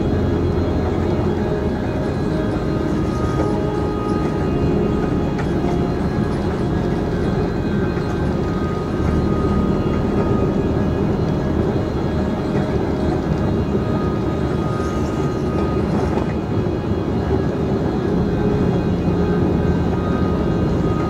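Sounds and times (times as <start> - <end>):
electric train running: 0.0 - 21.0.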